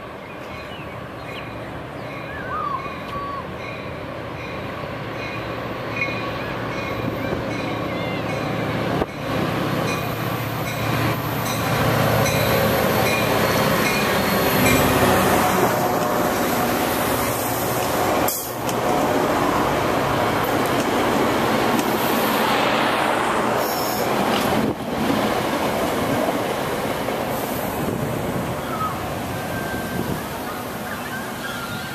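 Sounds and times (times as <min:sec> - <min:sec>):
diesel locomotive train running: 0:00.0 - 0:31.9.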